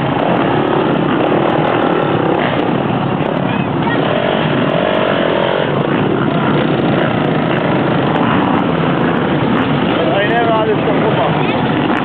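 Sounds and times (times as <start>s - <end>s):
motocross bike engines: 0.0s - 12.0s.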